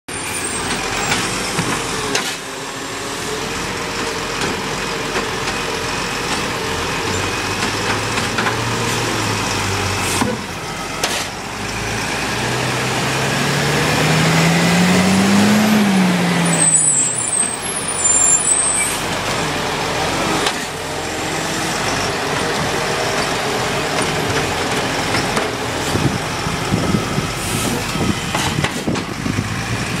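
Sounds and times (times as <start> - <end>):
garbage truck diesel engine: 0.1 - 30.0.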